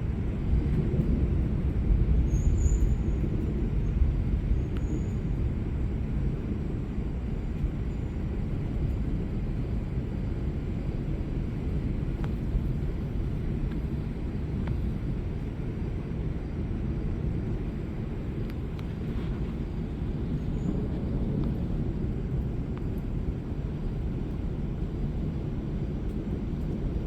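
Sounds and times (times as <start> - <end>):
thunderstorm rumble: 0.0 - 27.0.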